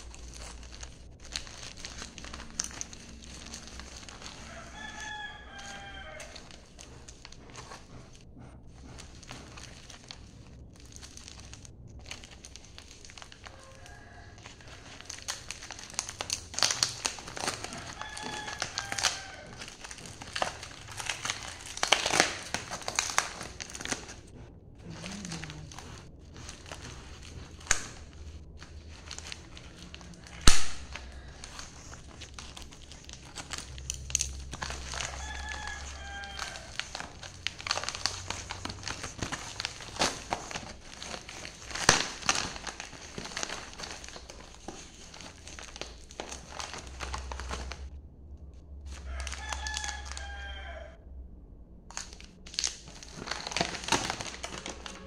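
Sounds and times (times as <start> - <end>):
foil pouch crinkling: 0.0 - 48.0, 48.8 - 50.8, 51.9 - 55.0.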